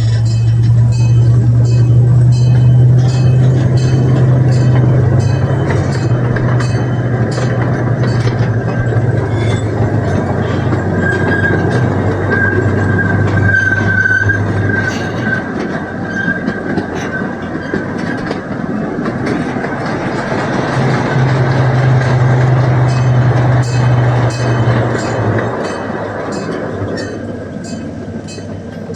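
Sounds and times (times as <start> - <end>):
high wheel squeal: 0.0 - 28.9
train low hum: 0.0 - 28.9
train wheels clattering on rails: 0.0 - 28.9.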